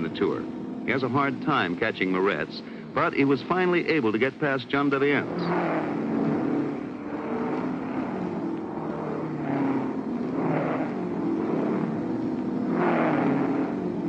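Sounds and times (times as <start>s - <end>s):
race cars passing by: 0.0s - 14.0s.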